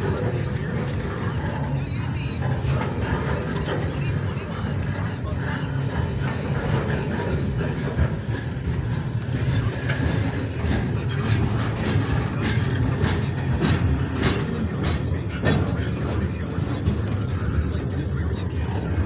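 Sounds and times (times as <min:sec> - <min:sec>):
wheels clicking over rail joints: 0:00.0 - 0:19.0.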